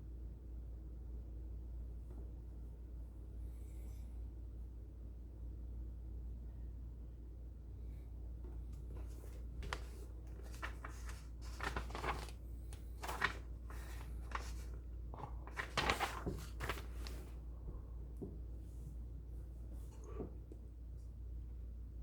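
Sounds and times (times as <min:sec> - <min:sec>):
steady low hum: 0:01.6 - 0:22.0.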